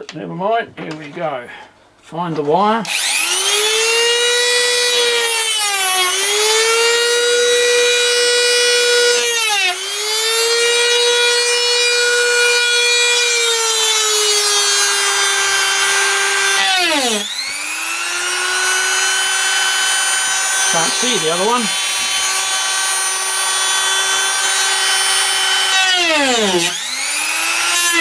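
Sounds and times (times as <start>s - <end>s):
rotary tool high-pitched whine: 2.9s - 28.0s.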